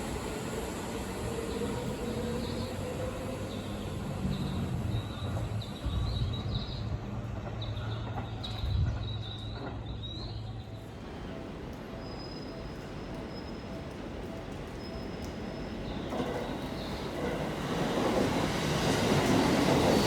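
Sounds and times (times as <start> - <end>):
electric train running on rails: 0.0 - 20.0.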